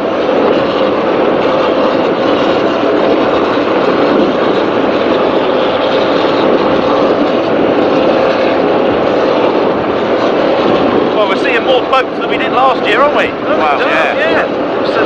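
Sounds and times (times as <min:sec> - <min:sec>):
powerboat engines running: 0:00.0 - 0:15.0.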